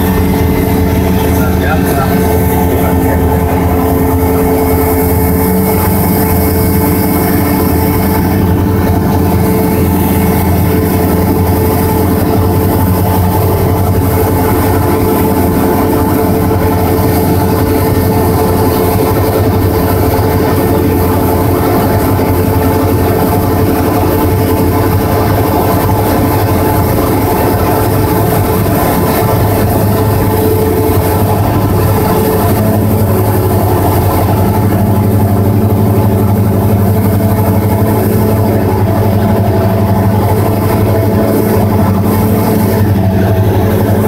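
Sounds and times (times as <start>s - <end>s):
aircraft engine and propeller drone: 0.0s - 44.0s.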